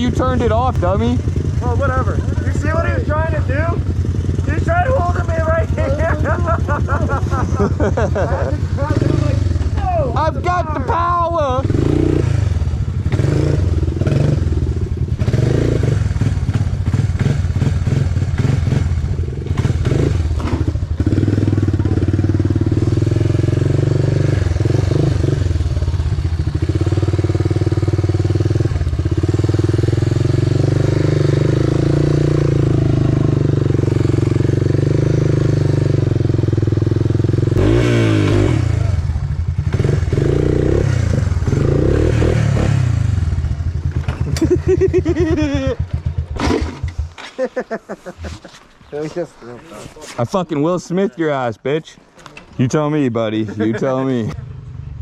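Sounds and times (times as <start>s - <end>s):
engine revving: 0.0s - 47.2s.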